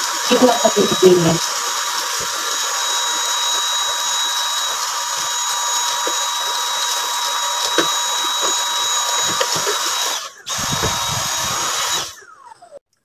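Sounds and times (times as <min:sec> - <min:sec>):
handheld vacuum cleaner whine: 0:00.0 - 0:13.0.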